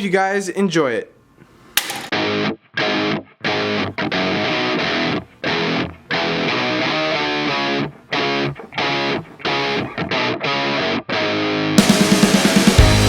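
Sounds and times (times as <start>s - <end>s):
rock electric guitar chords: 1.9s - 13.0s.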